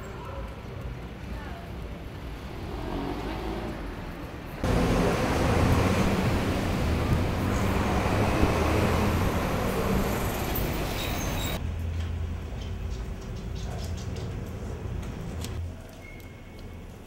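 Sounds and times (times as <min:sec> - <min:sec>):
street traffic hum: 0:00.0 - 0:17.0.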